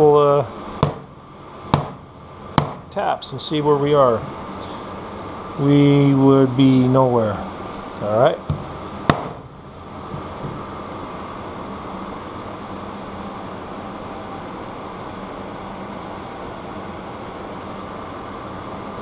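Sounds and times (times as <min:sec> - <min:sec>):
background hum with faint drone: 0:00.0 - 0:19.0.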